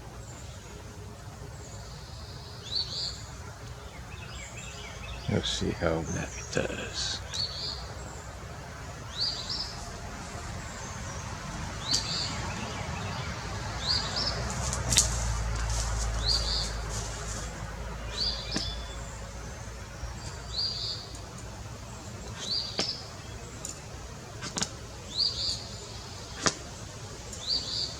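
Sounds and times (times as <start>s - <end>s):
bird chirping: 0.0s - 27.9s.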